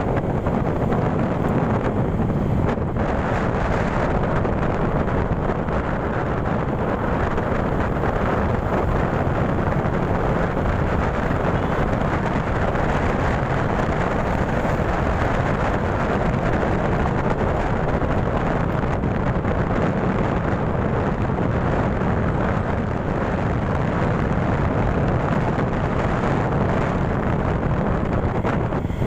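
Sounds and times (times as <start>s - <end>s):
motorcycle engine running: 0.0s - 29.0s
road noise: 0.0s - 29.0s
wind rush on microphone: 0.0s - 29.0s.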